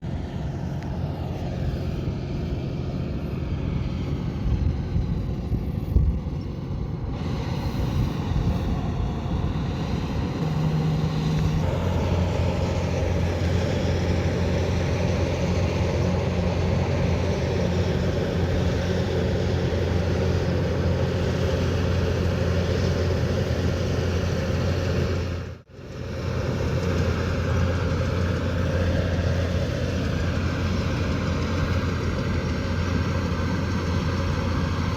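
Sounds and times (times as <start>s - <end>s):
combine harvester engine drone: 0.0s - 34.9s
threshing machinery noise: 0.0s - 34.9s.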